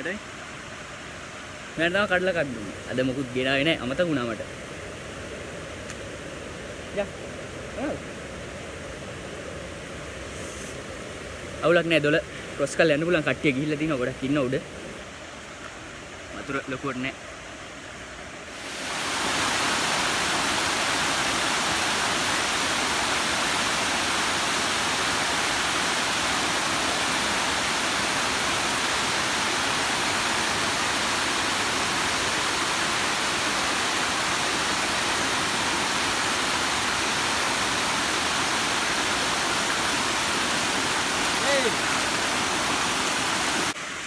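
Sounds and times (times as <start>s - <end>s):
waterfall and stream rushing: 0.0s - 44.0s.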